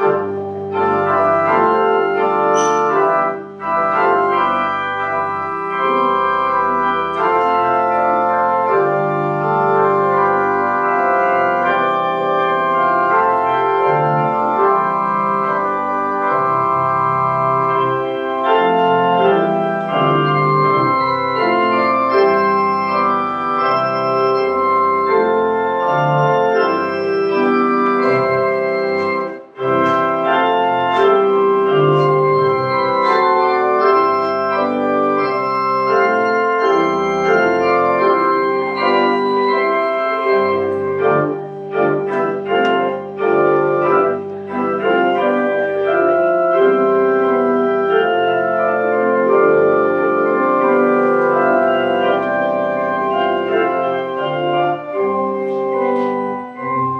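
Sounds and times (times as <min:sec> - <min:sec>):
organ playing sustained chords: 0:00.0 - 0:56.9.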